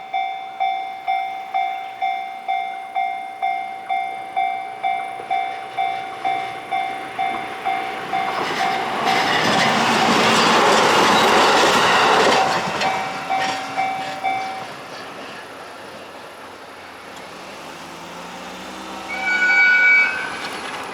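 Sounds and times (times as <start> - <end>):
level-crossing warning bell: 0.0 - 15.3, 16.6 - 20.9.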